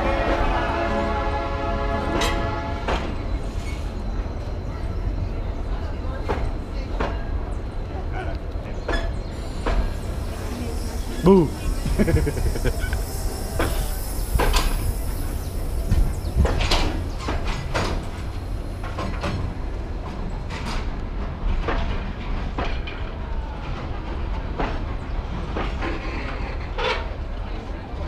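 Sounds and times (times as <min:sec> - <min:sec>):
train coaches rumbling past: 0:00.0 - 0:28.0
wheels clacking on rails: 0:00.0 - 0:28.0.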